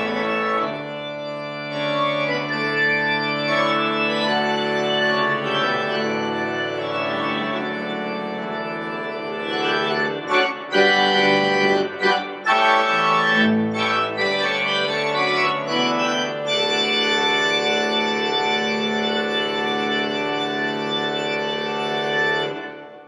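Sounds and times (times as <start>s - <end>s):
church organ chords: 0.0s - 23.0s.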